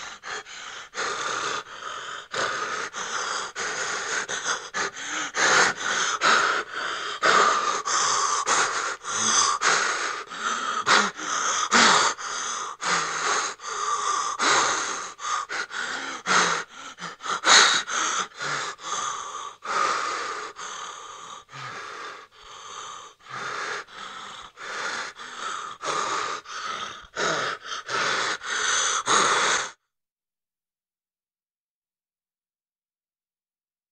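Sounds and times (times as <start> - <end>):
person gasping breaths: 0.0 - 29.9.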